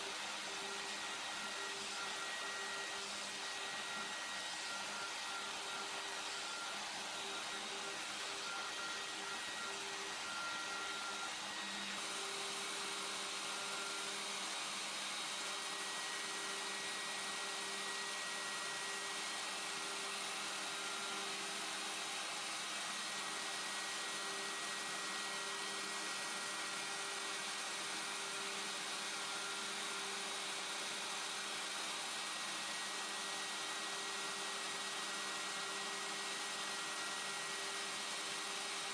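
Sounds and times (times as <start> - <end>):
motor hum and whine: 0.0 - 38.9
router milling: 0.0 - 38.9.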